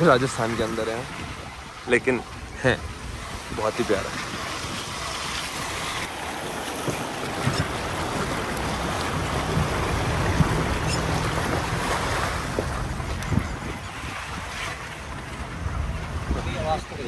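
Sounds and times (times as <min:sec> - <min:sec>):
vehicle engine running low: 0:00.1 - 0:17.0
wind on microphone: 0:00.9 - 0:17.0.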